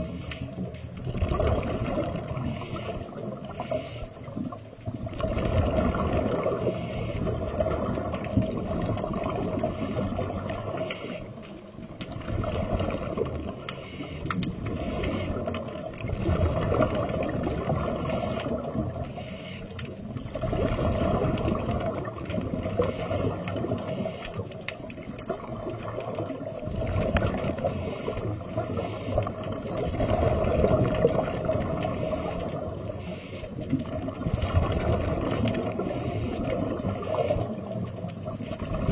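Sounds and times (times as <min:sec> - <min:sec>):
sea water sloshing and gurgling: 0:00.0 - 0:38.9.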